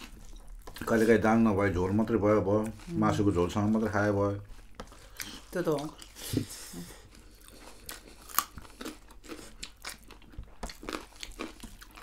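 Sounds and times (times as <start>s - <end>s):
people chewing crunchy food: 0.0s - 12.0s.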